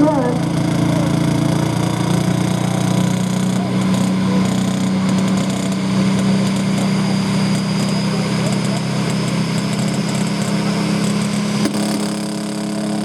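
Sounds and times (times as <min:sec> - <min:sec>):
diesel tractor engine running hard: 0:00.0 - 0:13.0.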